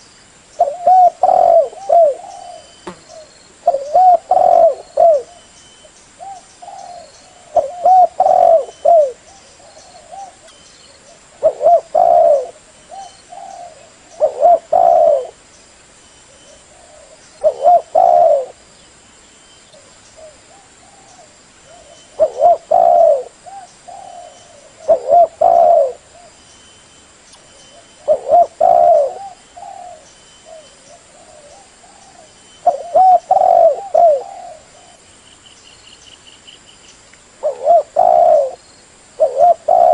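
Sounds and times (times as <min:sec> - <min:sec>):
dove cooing: 0:00.6 - 0:05.5, 0:06.2 - 0:15.4, 0:16.3 - 0:18.6, 0:19.8 - 0:26.4, 0:27.7 - 0:35.0, 0:37.4 - 0:38.6, 0:39.2 - 0:39.9.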